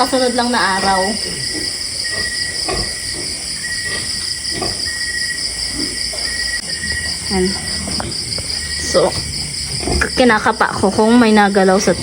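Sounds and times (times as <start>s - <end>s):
crickets and insects chirring: 0.0s - 12.0s.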